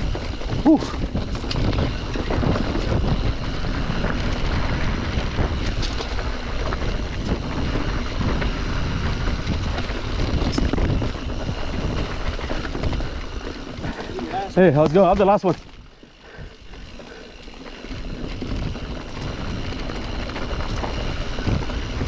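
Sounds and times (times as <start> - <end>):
mountain bike rattling: 0.0 - 22.0
wind rushing over microphone: 0.0 - 22.0.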